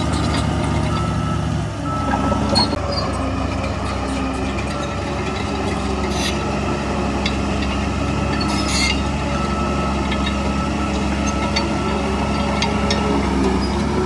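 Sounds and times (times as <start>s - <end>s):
diesel earthmoving machine running: 0.0s - 14.0s.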